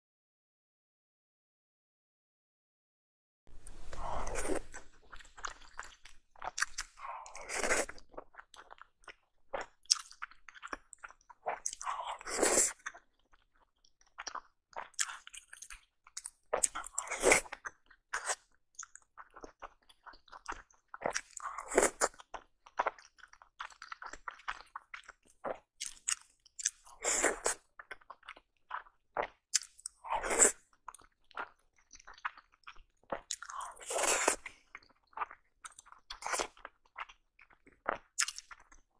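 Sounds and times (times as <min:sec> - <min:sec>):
biting and chewing dumplings: 0:03.7 - 0:38.9.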